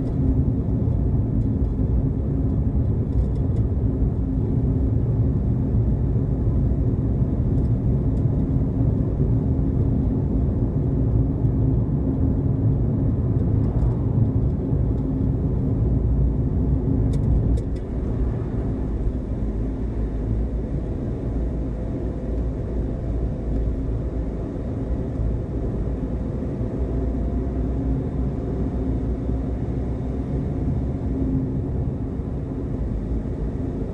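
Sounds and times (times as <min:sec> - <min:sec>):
car engine rumble: 0:00.0 - 0:33.9
road noise: 0:00.0 - 0:33.9.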